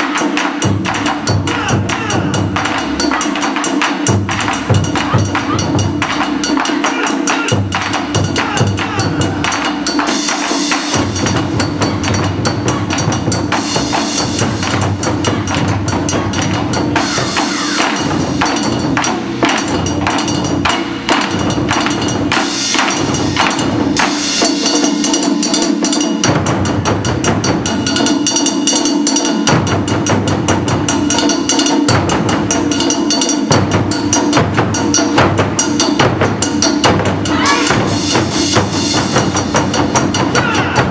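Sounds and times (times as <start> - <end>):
drum ensemble fast rhythm: 0.0 - 40.9.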